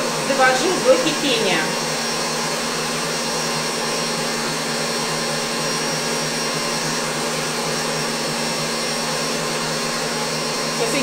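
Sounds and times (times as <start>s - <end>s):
stand mixer motor whirring: 0.0s - 11.0s.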